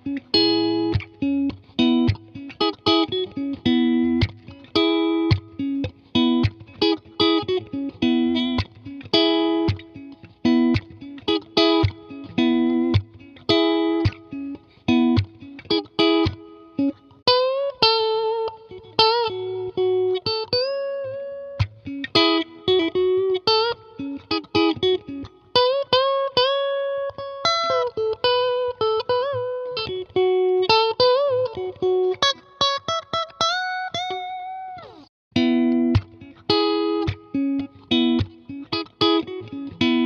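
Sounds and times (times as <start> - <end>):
electric guitar playing: 0.0 - 40.0.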